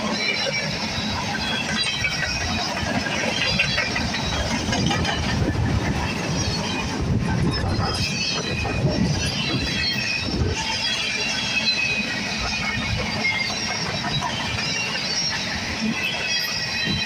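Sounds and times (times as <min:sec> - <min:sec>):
freight train wheels rumbling: 0:00.0 - 0:17.0
high metallic squeaks and rattles: 0:00.0 - 0:17.0.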